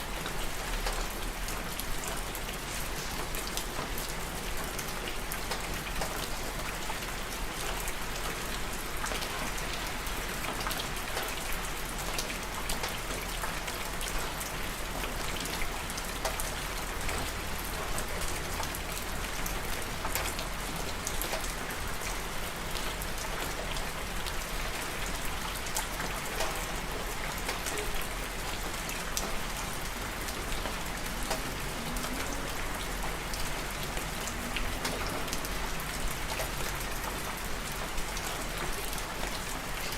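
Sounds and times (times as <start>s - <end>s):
raindrops pattering on a surface: 0.0s - 39.9s
steady rain falling: 0.0s - 39.9s.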